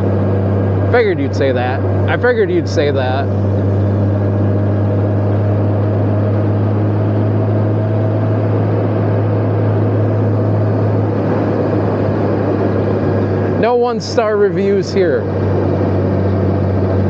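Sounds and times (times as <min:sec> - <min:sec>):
motorcycle engine droning: 0:00.0 - 0:17.0
rushing air noise: 0:00.0 - 0:17.0.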